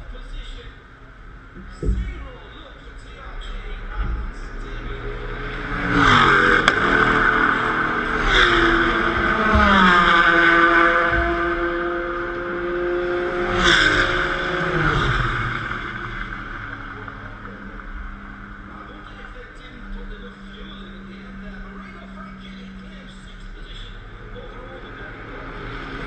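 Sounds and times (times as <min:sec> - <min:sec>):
racing cars passing at speed: 0:03.4 - 0:26.0.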